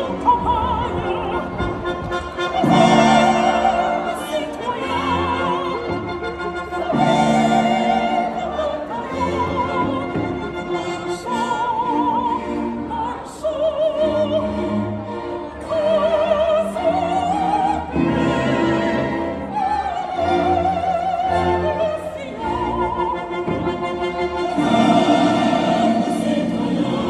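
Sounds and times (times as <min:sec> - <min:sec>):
orchestra playing: 0:00.0 - 0:27.0
soprano singing opera: 0:00.0 - 0:27.0.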